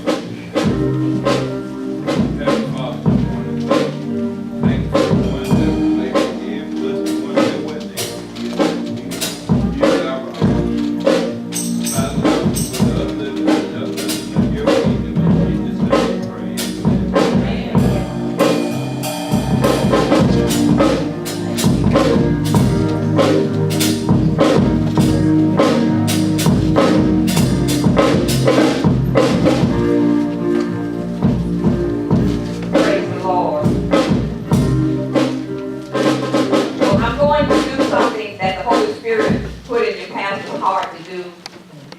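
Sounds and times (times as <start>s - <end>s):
sustained bass and instrument tones: 0.0s - 37.8s
drum kit steady beat: 0.0s - 41.0s.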